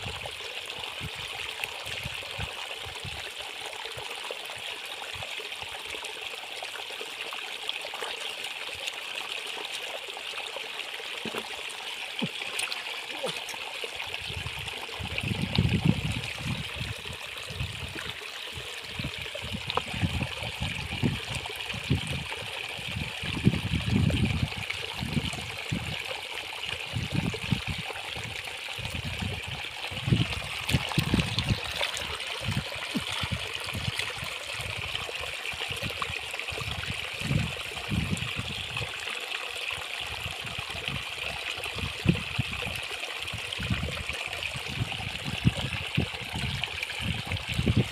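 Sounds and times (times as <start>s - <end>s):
water trickling into puddle: 0.0s - 47.9s.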